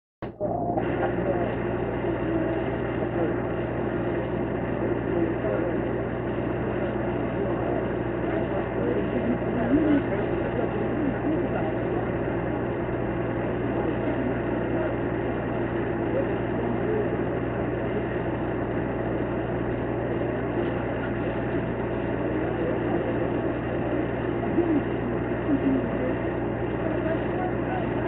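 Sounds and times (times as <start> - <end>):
constant low hum: 0.2 - 28.0
faint indistinct voices: 0.2 - 28.0
vehicle engines idling: 0.5 - 28.0.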